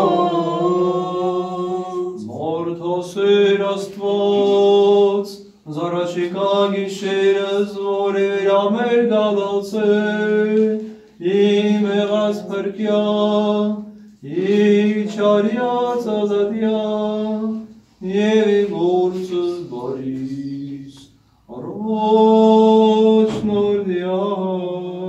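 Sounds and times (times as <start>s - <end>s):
man chanting a hymn: 0.0s - 25.0s.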